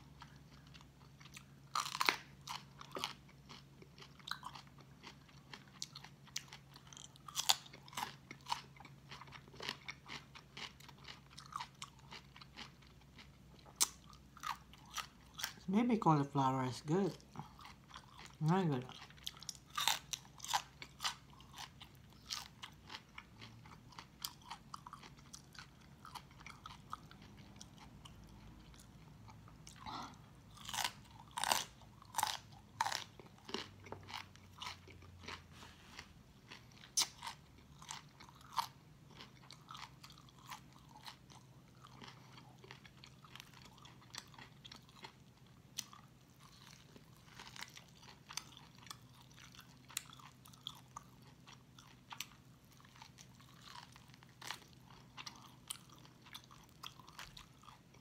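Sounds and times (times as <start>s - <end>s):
crunchy chewing: 0.0s - 15.6s, 17.2s - 58.0s.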